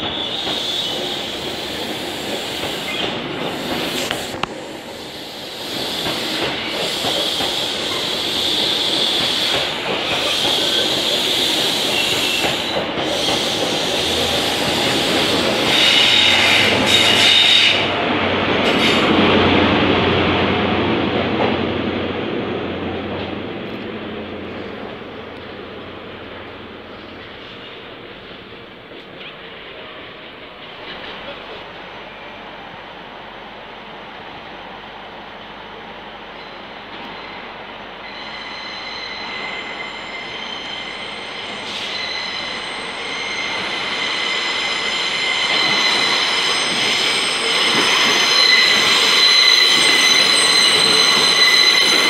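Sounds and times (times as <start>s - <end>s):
train wheel and rail noise: 0.0s - 52.0s.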